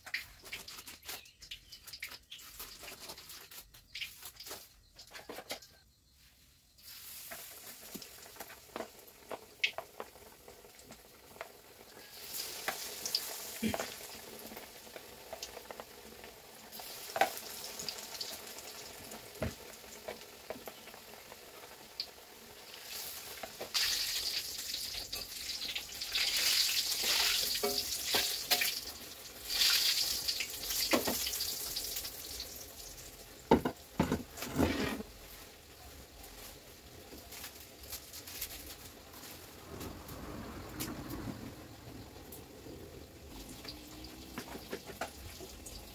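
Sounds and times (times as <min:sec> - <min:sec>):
tofu sizzling in hot oil: 0:06.8 - 0:39.6, 0:41.6 - 0:45.9.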